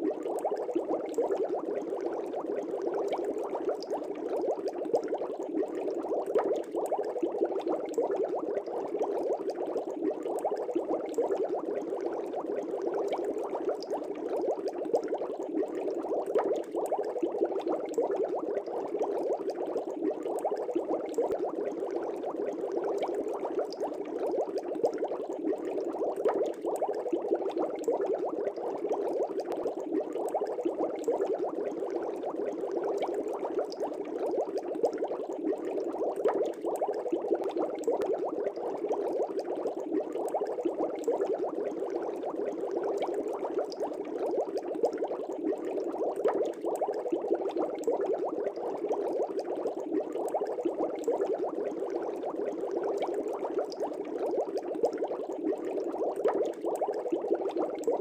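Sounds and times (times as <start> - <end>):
aquarium air bubbles burbling: 0.0 - 58.0.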